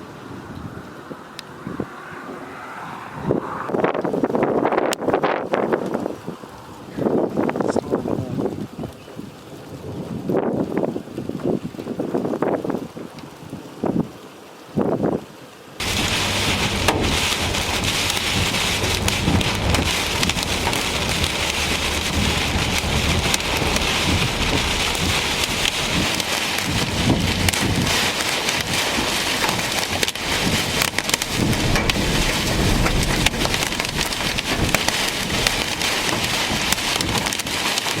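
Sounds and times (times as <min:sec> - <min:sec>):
heavy rain pelting hard surface: 0:05.6 - 0:38.0.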